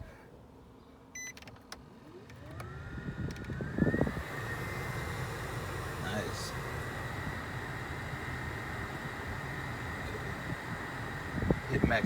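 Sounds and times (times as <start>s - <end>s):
blower motor whine: 1.2s - 12.0s.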